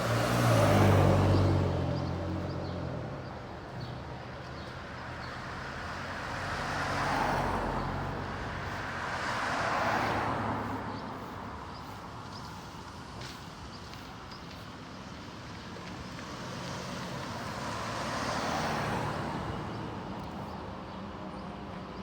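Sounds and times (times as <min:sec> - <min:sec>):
vehicles passing with tyre noise: 0:00.0 - 0:22.0.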